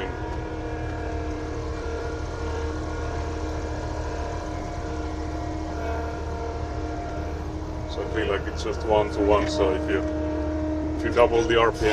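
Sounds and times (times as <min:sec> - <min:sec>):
loader engine droning: 0:00.0 - 0:11.9.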